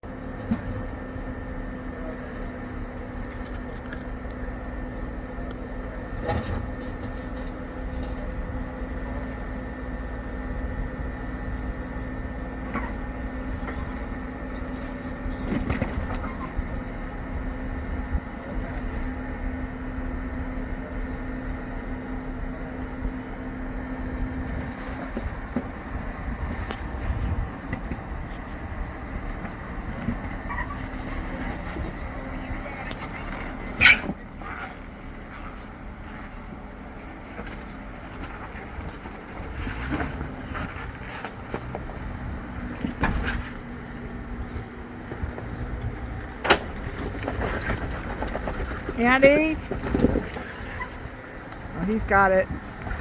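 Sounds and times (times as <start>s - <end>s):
vehicle running hum and rumble: 0.0s - 53.0s.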